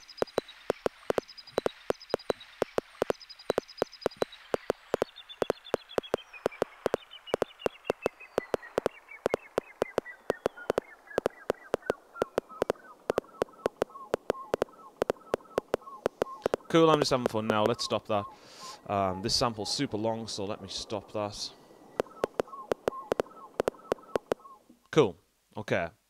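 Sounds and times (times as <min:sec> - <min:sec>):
rhythmic sharp clicks: 0:00.0 - 0:18.8, 0:21.9 - 0:24.6
sampled birdsong: 0:00.0 - 0:25.2.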